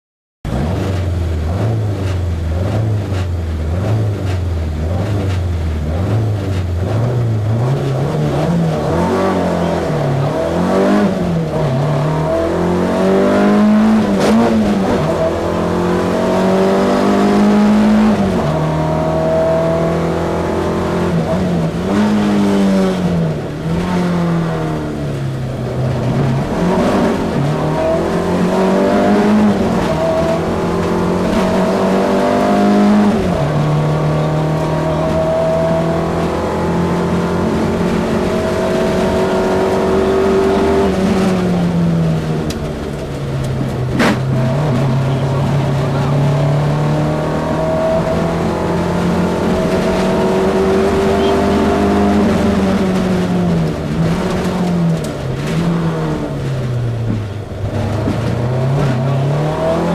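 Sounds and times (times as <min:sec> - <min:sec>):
rally car engine accelerating: 0:00.5 - 0:59.9.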